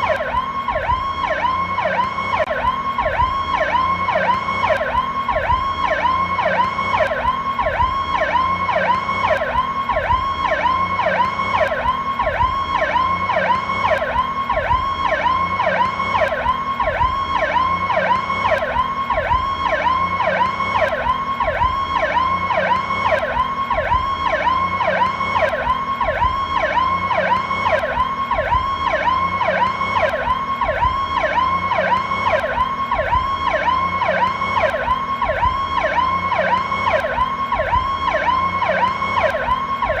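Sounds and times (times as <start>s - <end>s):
ambulance siren sweeping: 0.0s - 40.0s.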